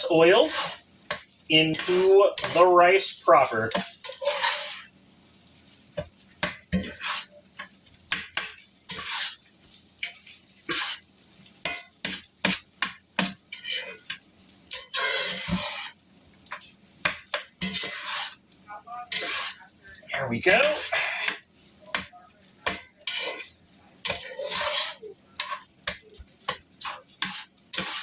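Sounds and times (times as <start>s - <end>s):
hot oil sizzling: 0.0s - 28.0s
utensil clanking and scraping pan: 0.0s - 28.0s.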